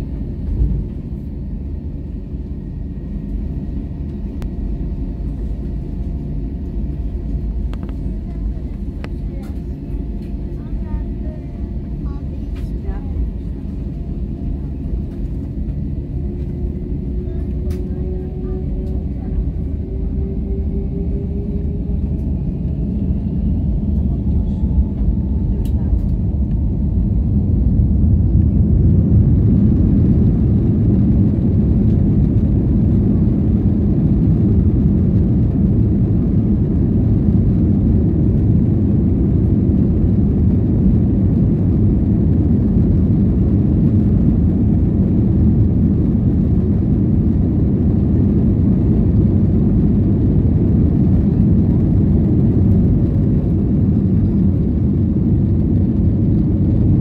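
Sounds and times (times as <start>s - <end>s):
jet engines at takeoff power: 0.0s - 57.0s
wheels rumbling on runway: 0.0s - 57.0s.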